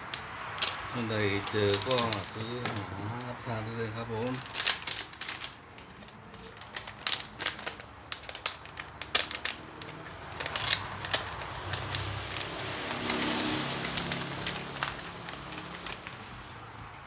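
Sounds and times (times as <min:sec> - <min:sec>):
plastic snack packet crinkling: 0:00.0 - 0:17.0.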